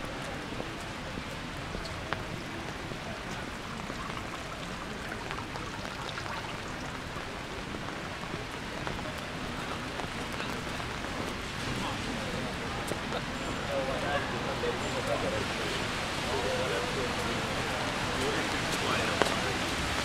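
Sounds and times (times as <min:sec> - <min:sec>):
steady rain falling: 0:00.0 - 0:20.0
raindrops ticking on surfaces: 0:00.1 - 0:14.0, 0:14.8 - 0:20.0.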